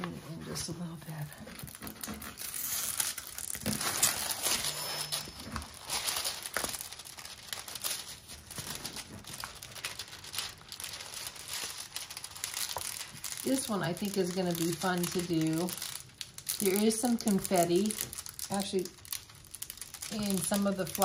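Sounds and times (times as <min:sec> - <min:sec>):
plastic crinkling and rustling: 0:00.0 - 0:21.0.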